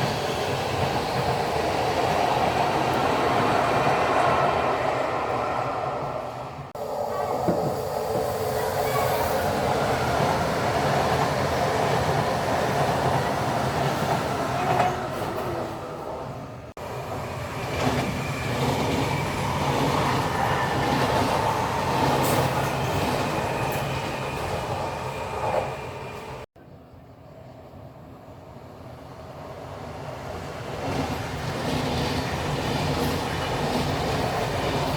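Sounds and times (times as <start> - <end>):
train wheels on rails: 0.0 - 26.5, 29.3 - 34.9.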